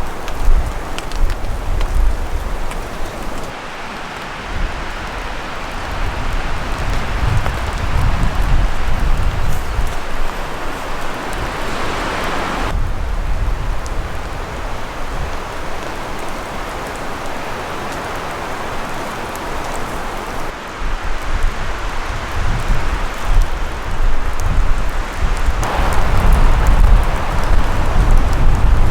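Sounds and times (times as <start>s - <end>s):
low wind rumble: 0.0s - 3.6s, 4.2s - 28.9s
heavy rain falling: 0.0s - 28.9s.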